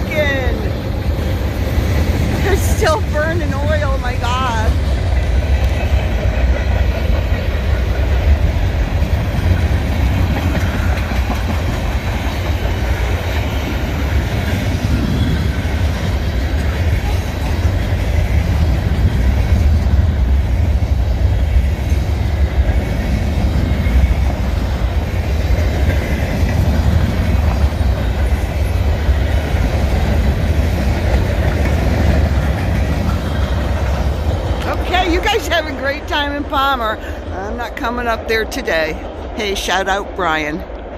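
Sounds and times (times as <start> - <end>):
wheels clickety-clack: 0.0 - 37.0
train rumbling on rails: 0.0 - 40.9.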